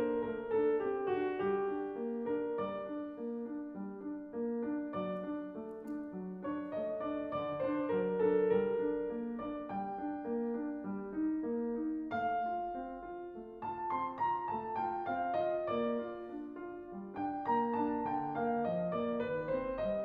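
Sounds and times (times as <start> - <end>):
classical piano piece: 0.0 - 20.0.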